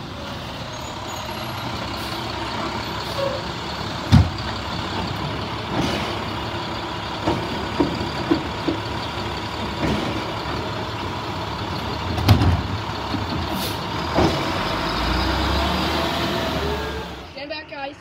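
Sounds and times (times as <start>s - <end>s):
garbage truck engine rumbling: 0.0s - 18.0s.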